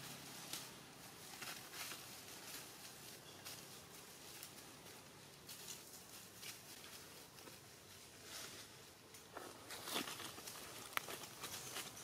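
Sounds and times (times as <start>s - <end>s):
monkeys rustling dry leaves: 0.0s - 12.0s.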